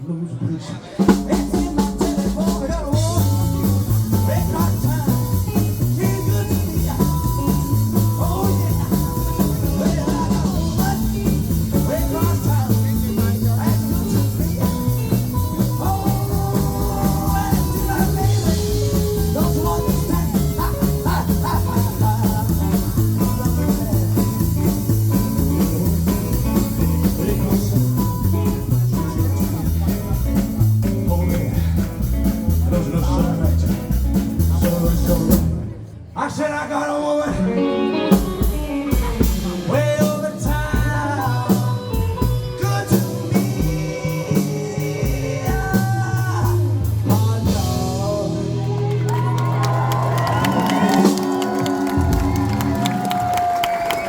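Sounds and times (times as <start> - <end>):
rockabilly band playing: 0.6 - 35.8, 37.2 - 54.0.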